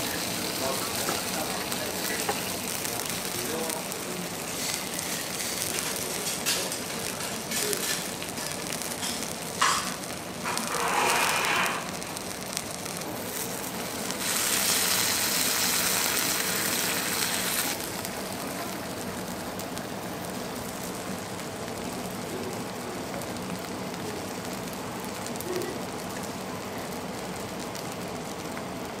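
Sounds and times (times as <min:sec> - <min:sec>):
food sizzling on a griddle: 0:00.0 - 0:29.0.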